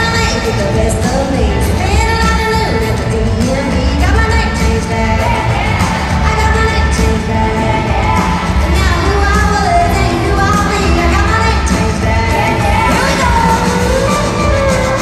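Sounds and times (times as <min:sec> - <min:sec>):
lead singing voice: 0:00.0 - 0:15.0
live country band: 0:00.0 - 0:15.0.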